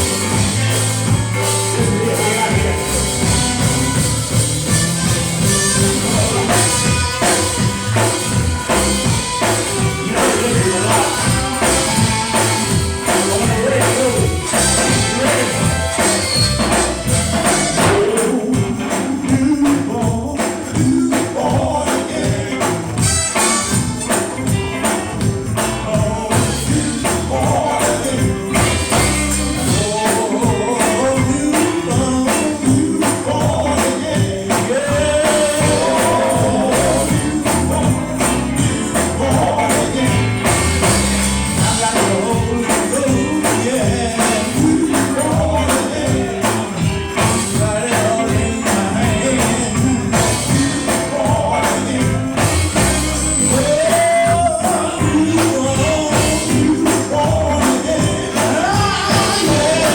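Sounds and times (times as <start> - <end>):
bass and drums: 0.0 - 59.9
gospel band playing: 0.0 - 59.9
people singing: 0.0 - 59.9
tambourine beat: 0.0 - 59.9.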